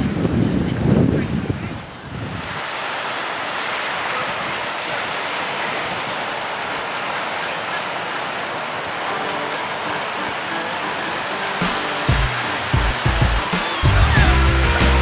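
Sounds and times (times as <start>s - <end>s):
small waves breaking on shore: 0.0s - 14.3s.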